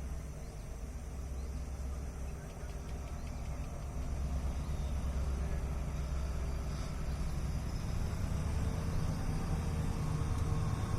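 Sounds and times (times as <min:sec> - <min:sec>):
faint steady hum: 0:00.0 - 0:10.9
train rumbling: 0:00.0 - 0:10.9.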